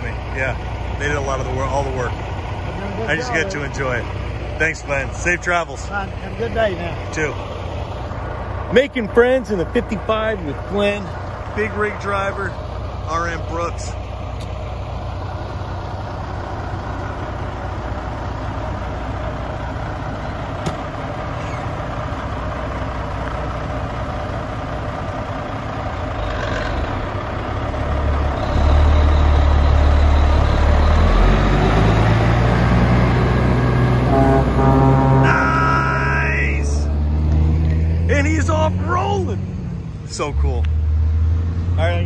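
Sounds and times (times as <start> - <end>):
diesel truck engine: 0.0 - 42.0.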